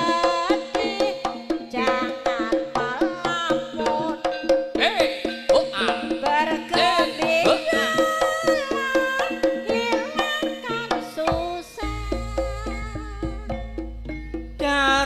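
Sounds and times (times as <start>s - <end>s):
hand-drum strokes: 0.0s - 15.0s.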